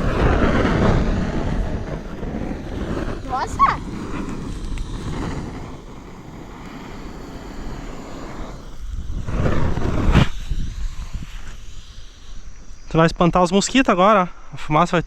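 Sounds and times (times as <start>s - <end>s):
campfire burning with rumbling: 0.0s - 13.8s
fire cracking: 0.0s - 14.1s.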